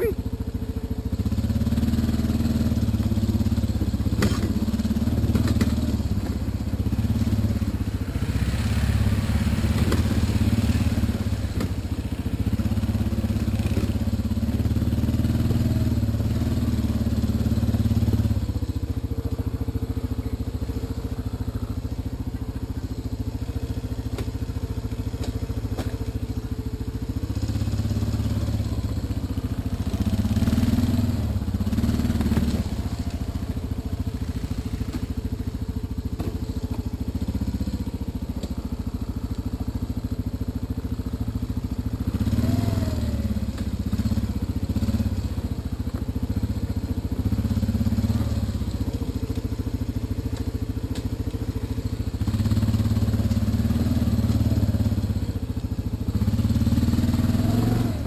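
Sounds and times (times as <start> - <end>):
quad engine running under load: 0.0 - 58.0.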